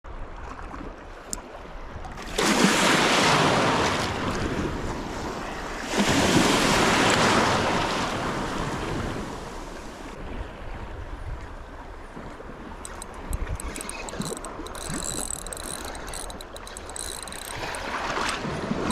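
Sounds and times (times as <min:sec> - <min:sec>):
sea waves breaking on shore: 0:00.4 - 0:18.9.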